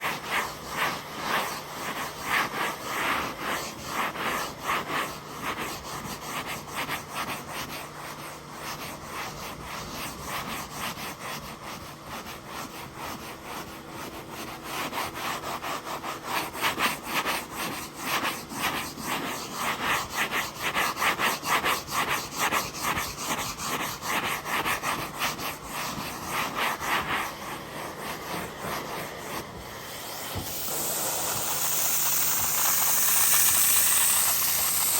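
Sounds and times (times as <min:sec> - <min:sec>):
brush scrubbing fabric: 0:00.0 - 0:34.9.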